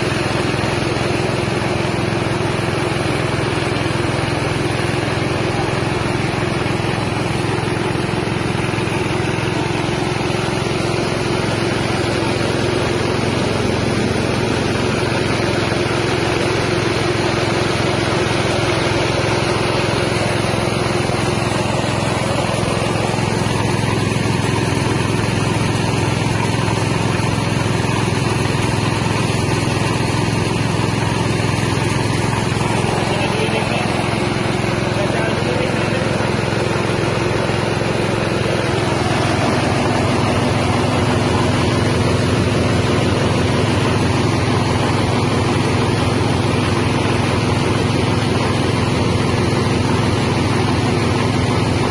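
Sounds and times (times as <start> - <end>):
rice milling machine running: 0.0 - 51.9.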